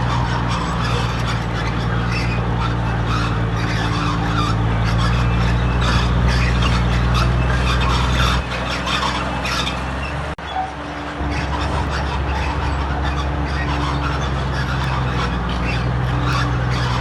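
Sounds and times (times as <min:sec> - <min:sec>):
bulldozer diesel engine: 0:00.0 - 0:17.0
steel tracks squealing: 0:00.0 - 0:17.0.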